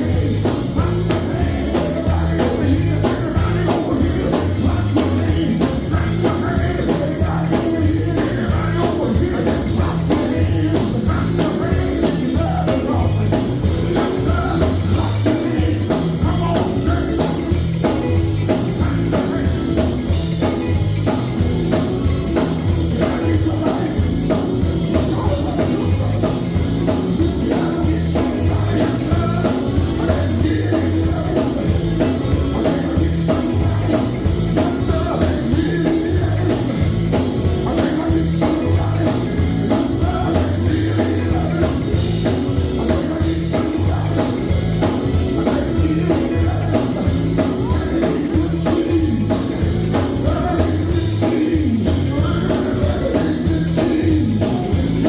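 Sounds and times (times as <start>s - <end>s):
drum kit and bass beat: 0.0s - 55.0s
live gospel band playing: 0.0s - 55.0s.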